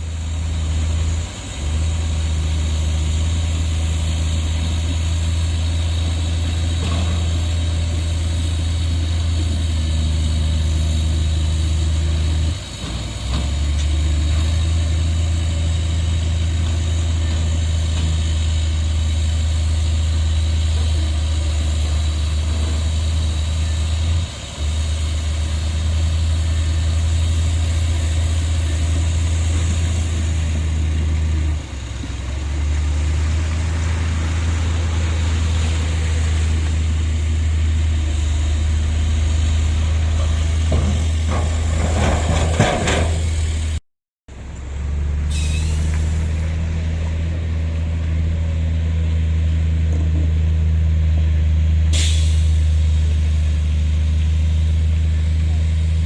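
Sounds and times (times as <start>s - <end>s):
heavy diesel engine humming: 0.0s - 56.0s.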